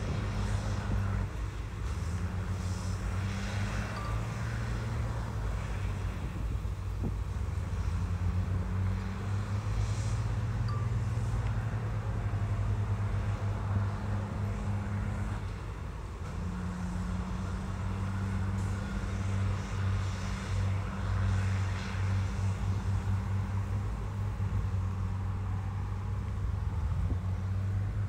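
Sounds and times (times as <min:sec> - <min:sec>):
heavy diesel engine humming: 0:00.0 - 0:28.0.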